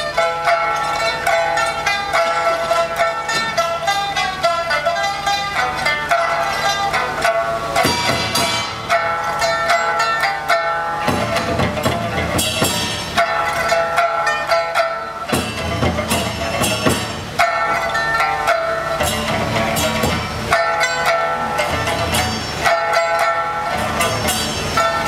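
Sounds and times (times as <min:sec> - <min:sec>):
plucked lutes ensemble: 0:00.0 - 0:25.0.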